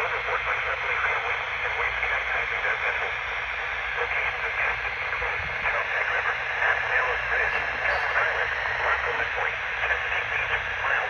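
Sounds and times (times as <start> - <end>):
walkie-talkie static hiss: 0.0 - 11.0.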